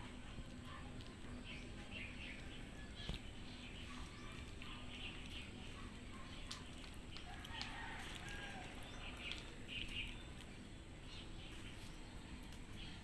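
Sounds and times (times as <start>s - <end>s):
cats chewing and crunching food: 0.0s - 13.0s.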